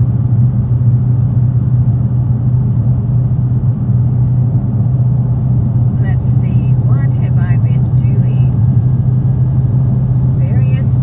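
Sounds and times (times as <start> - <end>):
car exhaust drone: 0.0 - 11.0
road noise: 0.0 - 11.0.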